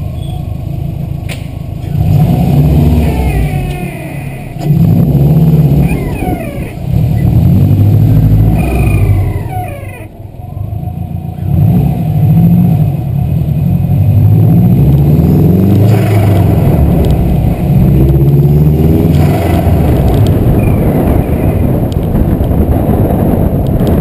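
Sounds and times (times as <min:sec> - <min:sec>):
car engine accelerating hard: 0:00.8 - 0:24.0.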